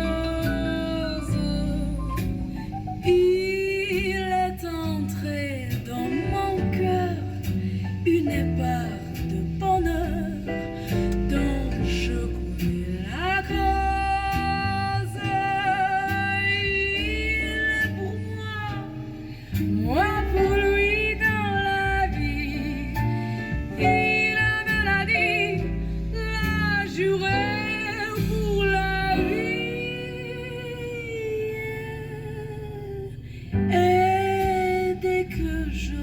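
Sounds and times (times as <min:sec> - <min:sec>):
bass: 0:00.0 - 0:36.0
guitar: 0:00.0 - 0:36.0
woman singing: 0:00.0 - 0:36.0.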